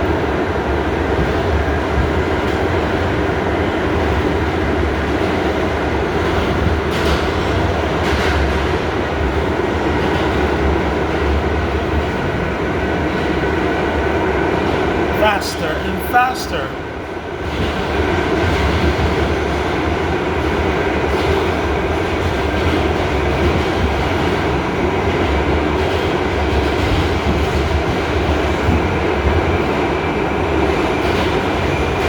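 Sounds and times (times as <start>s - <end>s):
subway car rumble: 0.0s - 32.0s.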